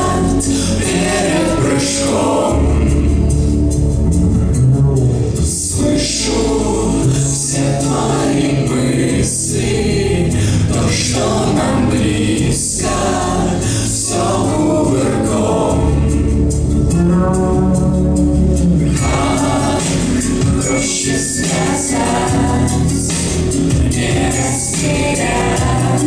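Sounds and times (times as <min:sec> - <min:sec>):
choir singing: 0:00.0 - 0:26.0
sustained bass accompaniment: 0:00.0 - 0:26.0.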